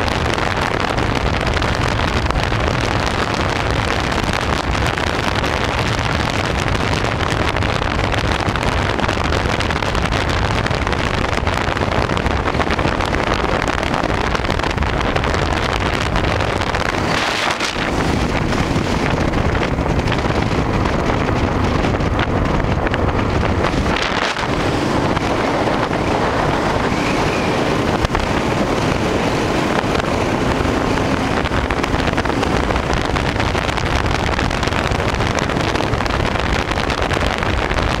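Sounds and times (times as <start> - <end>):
motorcycle engine running: 0.0 - 38.0
wind noise over microphone: 0.0 - 38.0.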